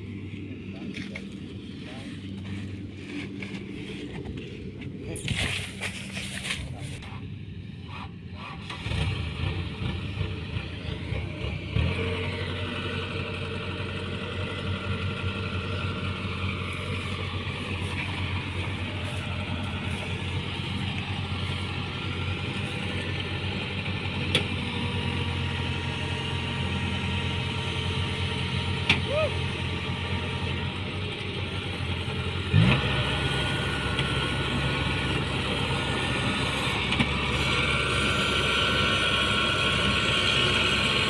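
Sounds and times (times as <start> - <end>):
farm machine engine running: 0.0 - 41.0.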